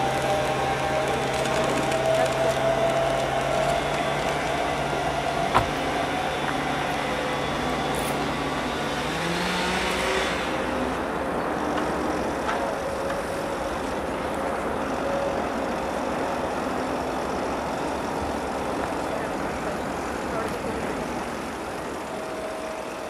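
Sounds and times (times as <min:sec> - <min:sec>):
train rushing rumble: 0:00.0 - 0:23.0.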